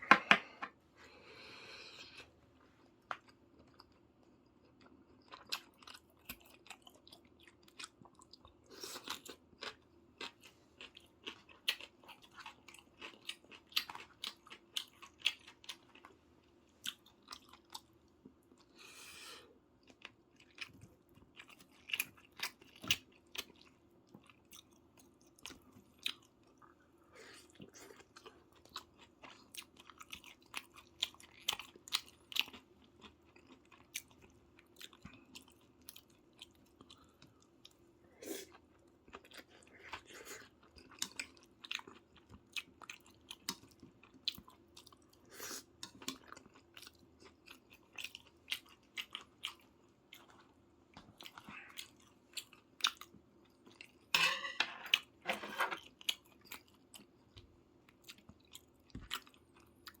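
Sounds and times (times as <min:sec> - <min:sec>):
close chewing and mouth sounds: 0:01.9 - 0:54.1, 0:55.8 - 1:00.0.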